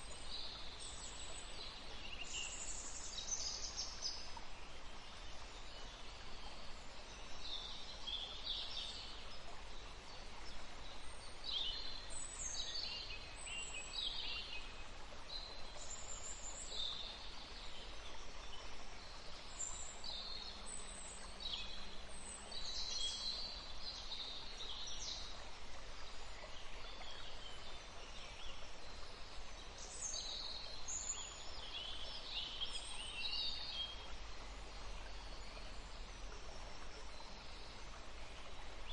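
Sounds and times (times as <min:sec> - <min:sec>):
low background hiss: 0:00.0 - 0:38.9.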